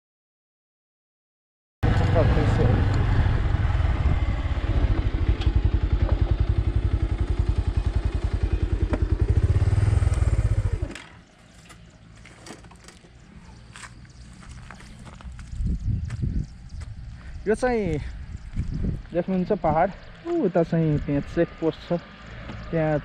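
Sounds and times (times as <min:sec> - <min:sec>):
motorcycle engine idling: 0:01.8 - 0:21.5.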